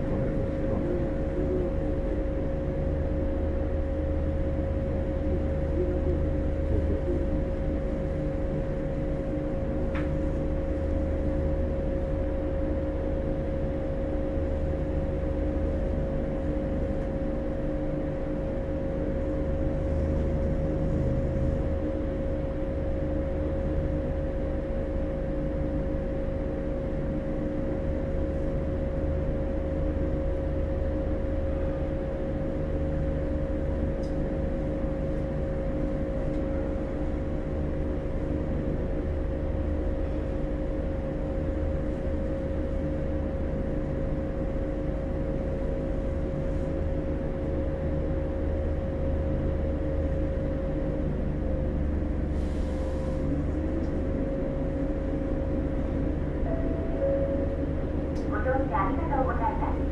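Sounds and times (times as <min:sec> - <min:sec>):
train equipment humming: 0:00.0 - 0:59.9.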